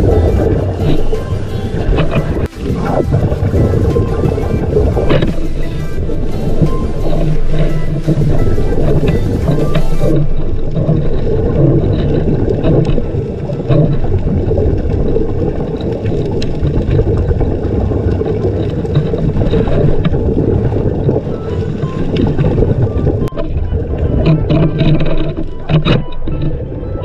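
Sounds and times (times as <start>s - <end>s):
muffled underwater rumble: 0.0s - 27.0s.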